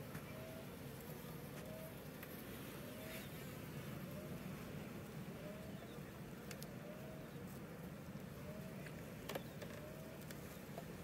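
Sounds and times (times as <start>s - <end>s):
honeybees humming: 0.0s - 11.0s.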